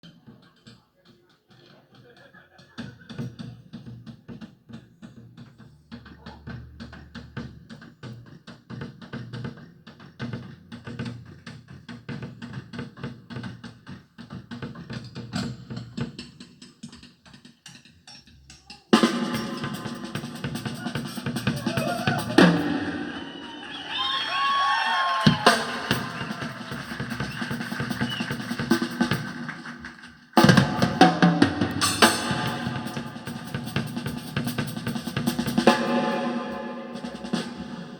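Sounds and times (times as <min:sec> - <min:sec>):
drum-kit music through loudspeaker: 0:01.5 - 0:37.9.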